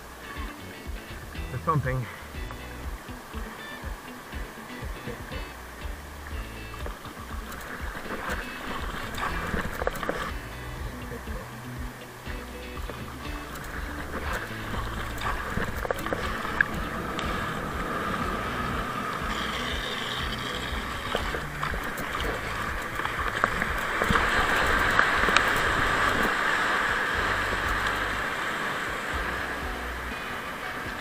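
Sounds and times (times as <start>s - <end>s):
water rushing along a hull: 0.0s - 31.0s
wind rumbling on microphone: 0.0s - 31.0s.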